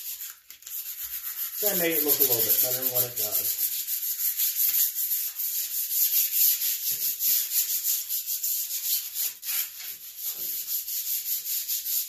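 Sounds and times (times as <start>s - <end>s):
sandpaper rubbing on steel: 0.0s - 12.0s.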